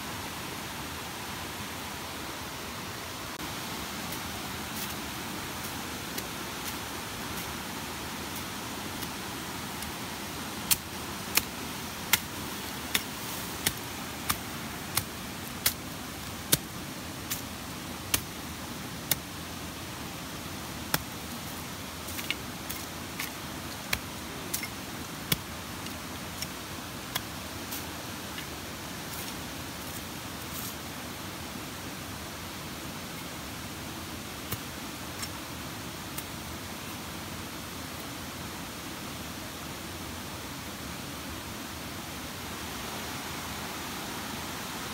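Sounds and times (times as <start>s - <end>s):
background hiss: 0.0s - 44.9s.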